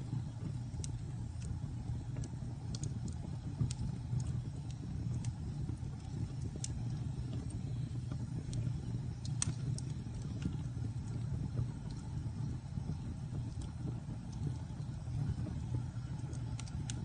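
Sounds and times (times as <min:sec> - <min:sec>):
fire crackling and popping: 0:00.0 - 0:17.0
fire rumbling in fireplace: 0:00.0 - 0:17.0.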